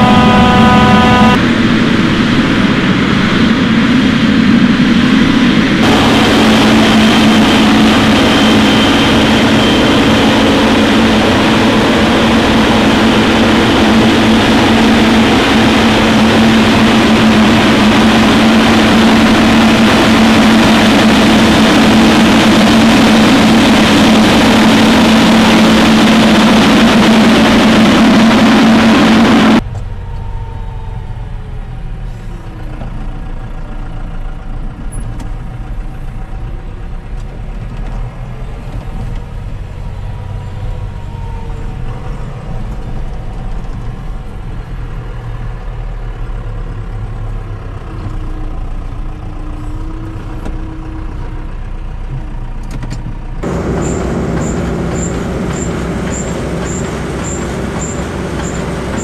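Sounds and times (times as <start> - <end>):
heavy farm machinery drone: 0.0 - 52.6, 53.2 - 59.0.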